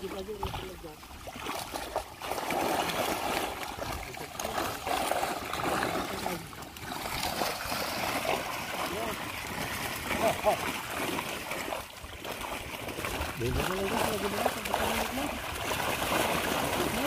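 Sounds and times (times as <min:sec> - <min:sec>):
water splashing off fishing net: 0:00.0 - 0:17.0.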